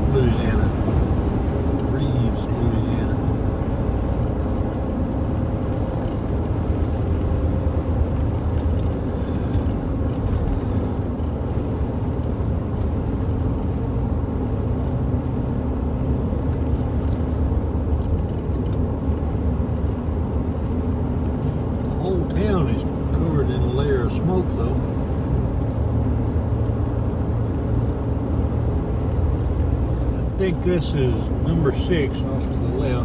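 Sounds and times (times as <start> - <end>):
road noise inside vehicle: 0.0 - 33.0
vehicle engine: 0.0 - 33.0.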